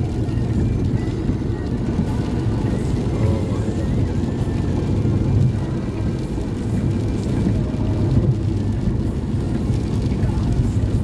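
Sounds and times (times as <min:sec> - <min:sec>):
tyre noise on wet road: 0:00.0 - 0:11.0.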